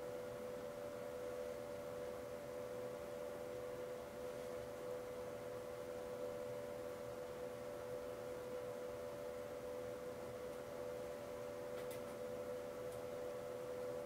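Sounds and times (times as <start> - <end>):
steady two-tone hum: 0.0 - 14.0.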